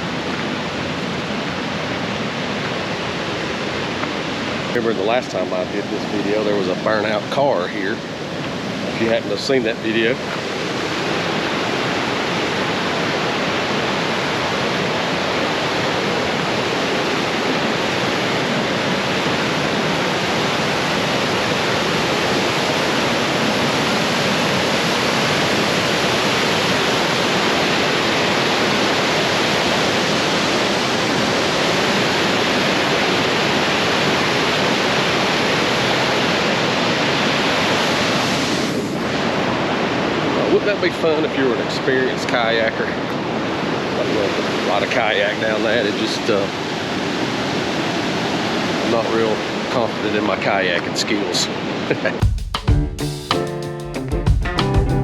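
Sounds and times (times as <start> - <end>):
waterfall rushing: 0.0 - 52.2.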